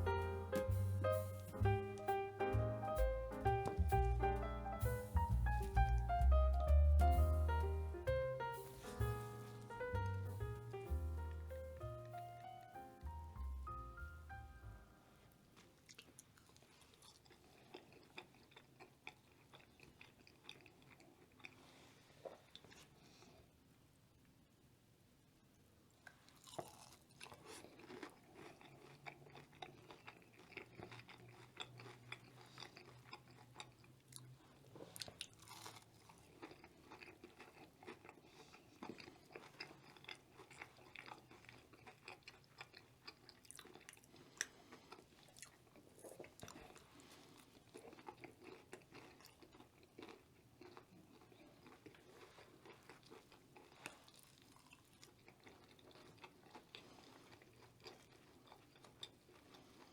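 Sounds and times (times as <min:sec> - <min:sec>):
chewing crispy food: 0:00.0 - 0:23.6, 0:25.6 - 0:59.9.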